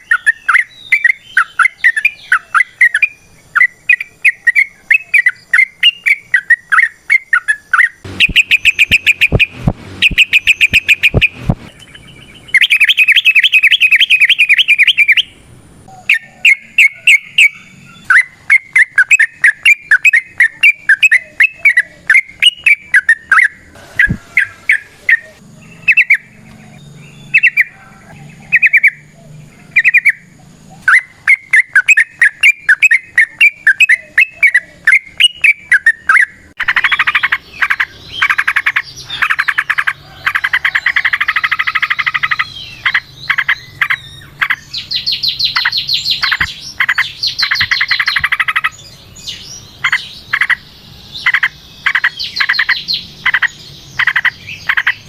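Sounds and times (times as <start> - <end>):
bird singing rapid chirping notes: 0.0 - 55.0.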